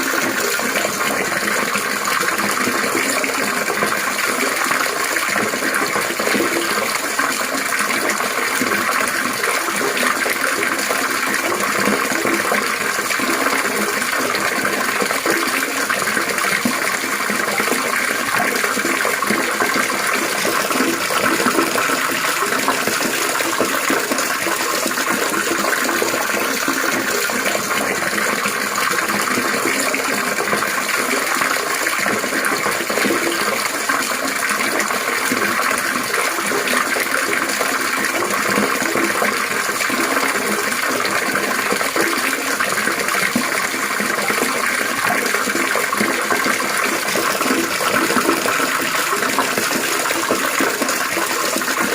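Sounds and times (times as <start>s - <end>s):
running water trickling: 0.0s - 51.9s.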